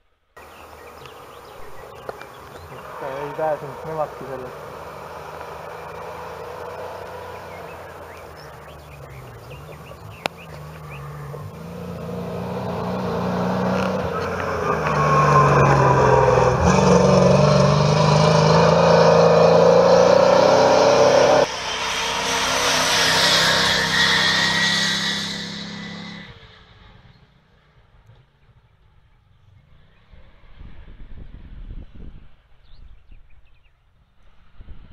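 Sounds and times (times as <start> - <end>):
truck passing by: 0.4 - 28.6
truck engines running hard: 0.4 - 29.0.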